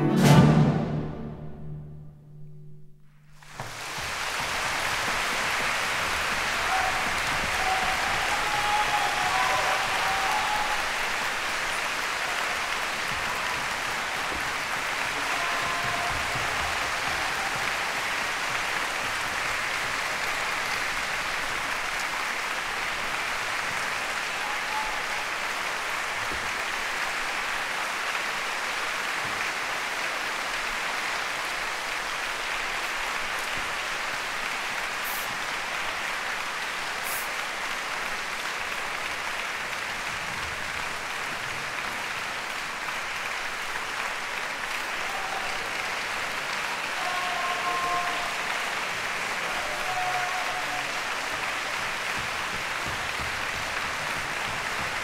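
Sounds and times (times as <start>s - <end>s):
audience applauding: 3.4s - 55.0s.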